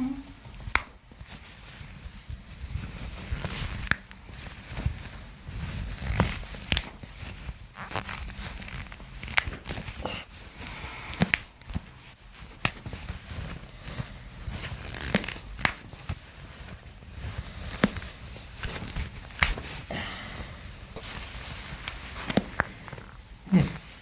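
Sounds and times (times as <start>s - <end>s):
rubbing and handling noise: 0.0s - 24.0s.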